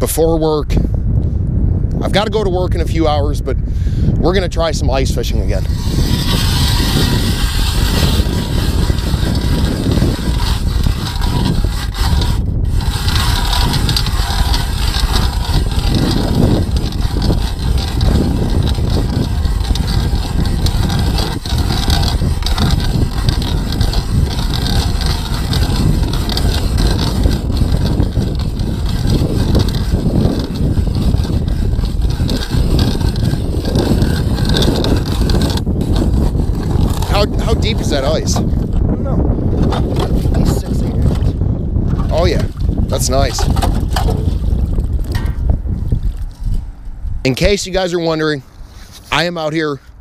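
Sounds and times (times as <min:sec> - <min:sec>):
wind rumbling on microphone: 0:00.0 - 0:50.0
ice auger grinding through ice: 0:05.0 - 0:46.6.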